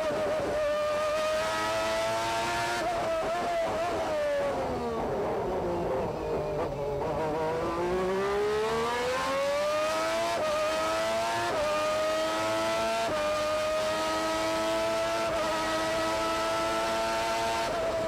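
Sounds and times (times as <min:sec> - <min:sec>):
racing car engine accelerating: 0:00.0 - 0:18.0.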